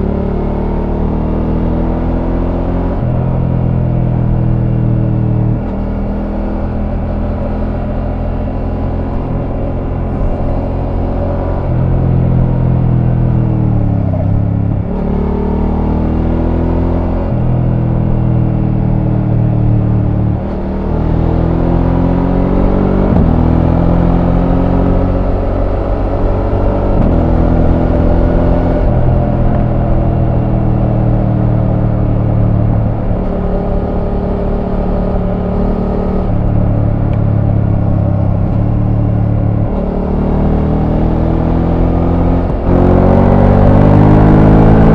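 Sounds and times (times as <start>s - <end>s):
motorcycle engine changing gears: 0.0s - 44.9s.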